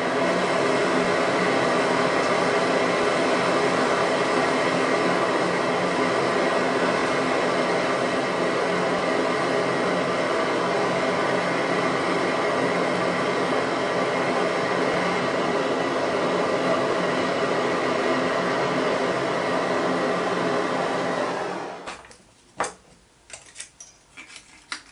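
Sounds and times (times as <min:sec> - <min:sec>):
blowtorch hissing: 0:00.0 - 0:22.0.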